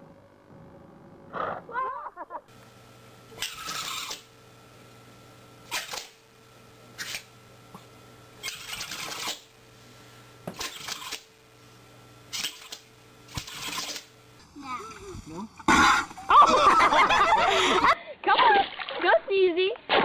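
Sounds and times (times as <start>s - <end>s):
faint steady hum: 0.0s - 18.2s.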